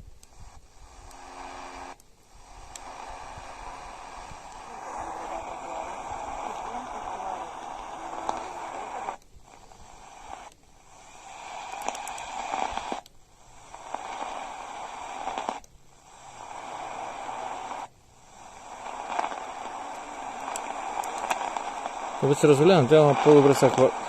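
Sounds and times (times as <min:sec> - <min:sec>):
faint radio crackles: 0:00.0 - 0:24.0
radio hiss and static: 0:00.0 - 0:24.0.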